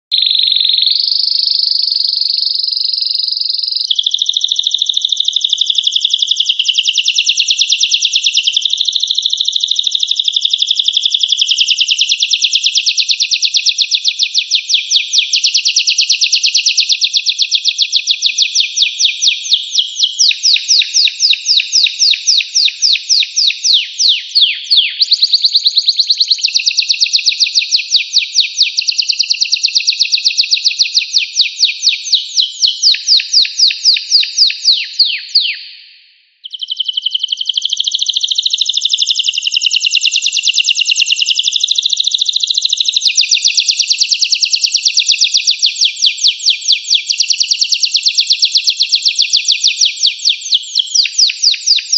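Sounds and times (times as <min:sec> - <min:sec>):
canary singing trills: 0:00.1 - 0:51.9.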